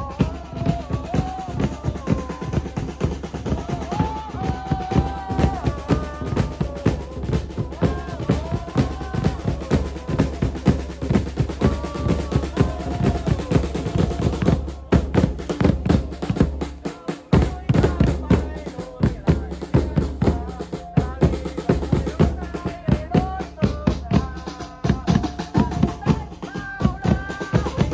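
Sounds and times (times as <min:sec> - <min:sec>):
music with fast drum beat: 0:00.0 - 0:27.9.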